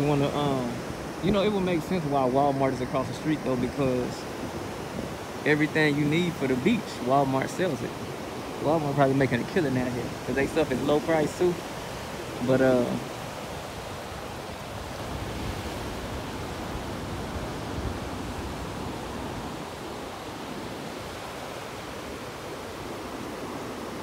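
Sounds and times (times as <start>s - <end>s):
surf washing onto sandy beach: 0.0s - 24.0s.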